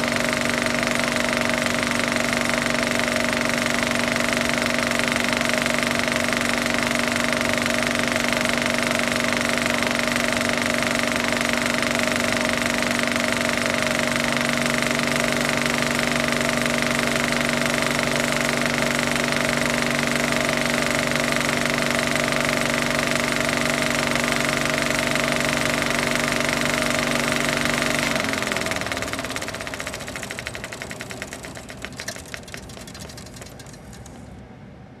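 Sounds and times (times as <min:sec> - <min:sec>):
film projector whirring and clattering: 0:00.0 - 0:34.4.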